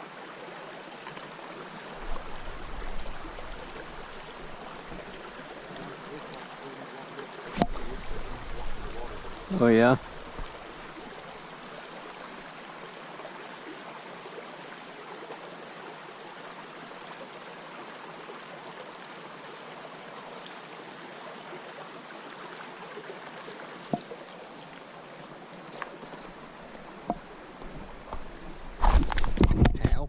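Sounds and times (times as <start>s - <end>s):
creek water running over rocks: 0.0s - 30.0s.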